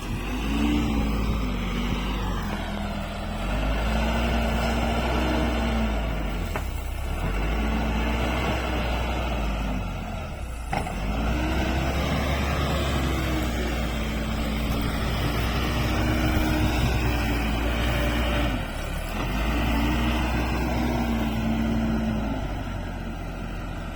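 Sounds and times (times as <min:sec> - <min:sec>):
deep rumble: 0:00.0 - 0:22.8
diesel engine working: 0:00.0 - 0:23.9.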